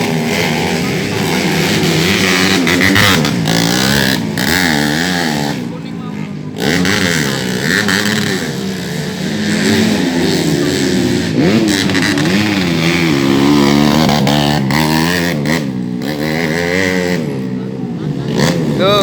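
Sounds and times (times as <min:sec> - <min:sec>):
motorcycles revving hard: 0:00.0 - 0:19.0.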